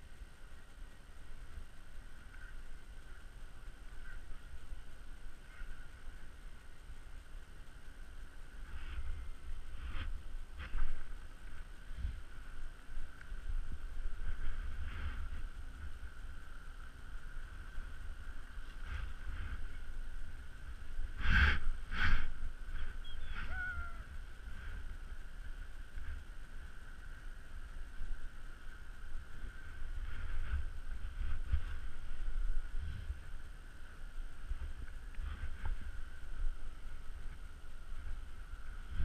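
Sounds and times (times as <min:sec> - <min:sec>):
faint steady whine: 0:00.0 - 0:39.0
wind rumbling on microphone: 0:00.0 - 0:39.0.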